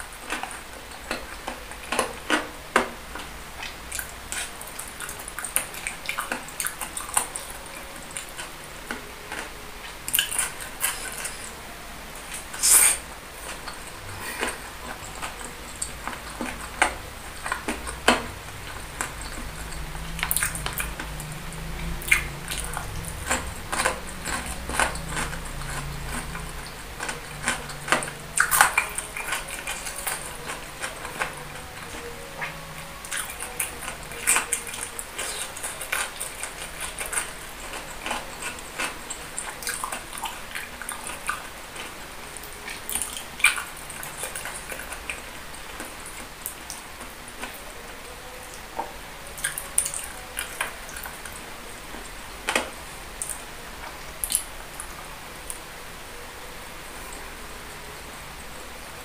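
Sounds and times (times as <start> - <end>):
wet chewing mouth sounds: 0.0 - 11.6, 12.2 - 55.6.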